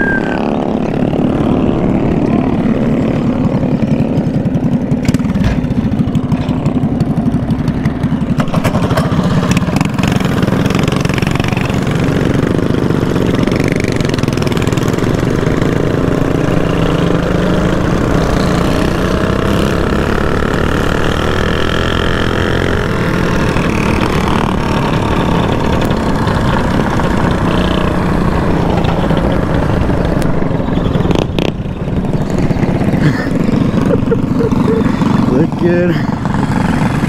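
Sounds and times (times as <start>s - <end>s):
mini bike engine running: 0.0s - 37.0s.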